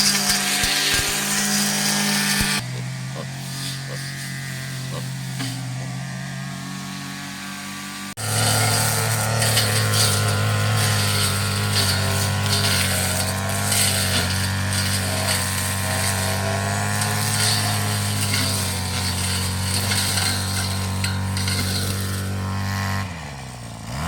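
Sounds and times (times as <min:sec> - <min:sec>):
petrol grass cutter engine: 0:00.0 - 0:24.0.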